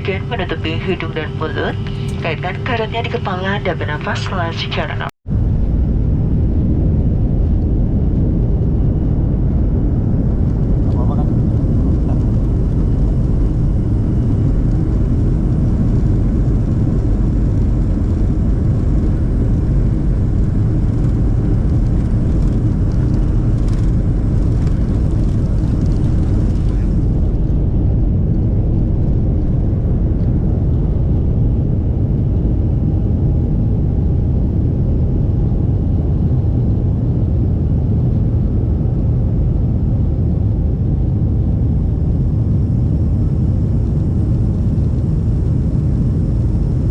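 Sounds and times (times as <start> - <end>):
jet engine rumble in cabin: 0.0 - 46.9.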